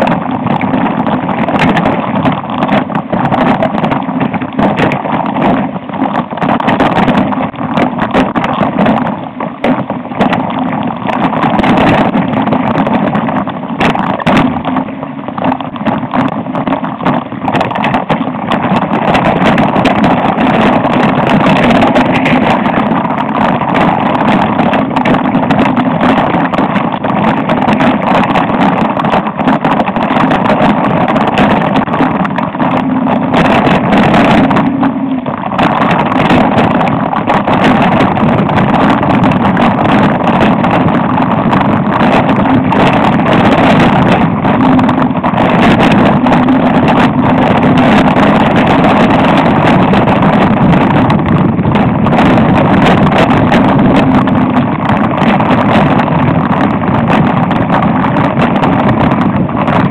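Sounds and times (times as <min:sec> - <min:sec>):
bike rumbling and rattling on rocky trail: 0:00.0 - 0:59.9.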